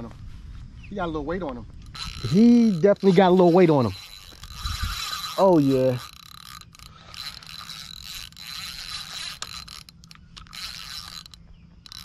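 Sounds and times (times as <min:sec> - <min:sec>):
fishing reel gears whirring: 0:01.7 - 0:12.0.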